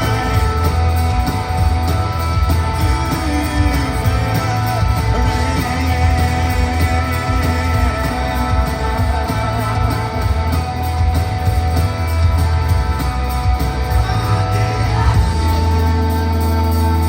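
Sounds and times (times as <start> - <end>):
drums: 0.0 - 17.0
electric guitars: 0.0 - 17.0
heavy bass: 0.0 - 17.0
person singing: 0.0 - 17.0.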